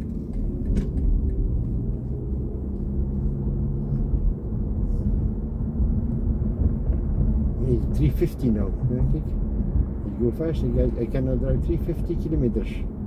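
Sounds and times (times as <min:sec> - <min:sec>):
road and tyre rumble in car cabin: 0:00.0 - 0:13.0.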